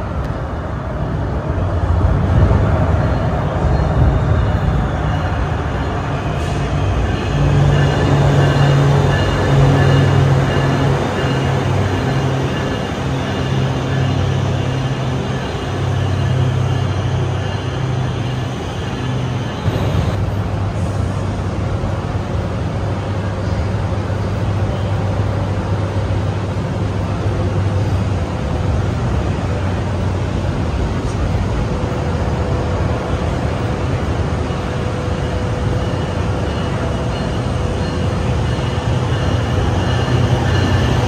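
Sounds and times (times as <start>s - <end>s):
station background noise: 0.0s - 41.0s
train engine idling hum: 0.0s - 41.0s.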